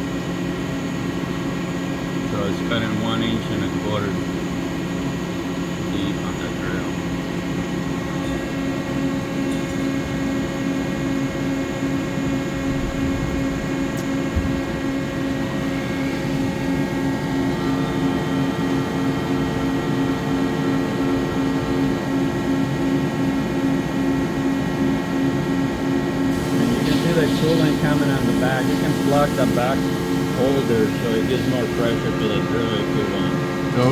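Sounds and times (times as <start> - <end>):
high machine whine: 0.0 - 33.9
lathe machine hum: 3.3 - 33.9.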